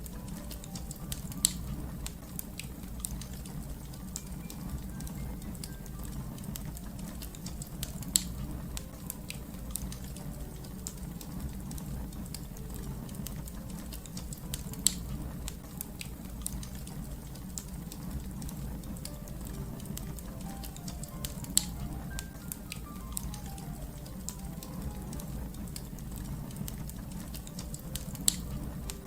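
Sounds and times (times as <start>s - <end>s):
low rumble of fire: 0.0s - 29.0s
wood fire crackling: 0.0s - 29.0s.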